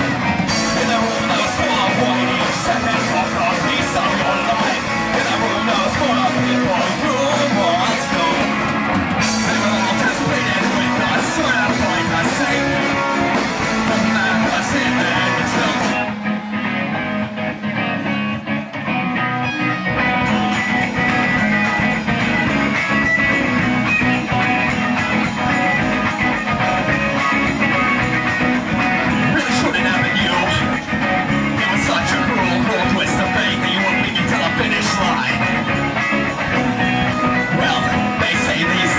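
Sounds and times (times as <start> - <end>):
person singing: 0.0 - 16.2, 22.2 - 38.9
electric guitar: 0.0 - 38.9
punk rock band playing: 0.0 - 38.9.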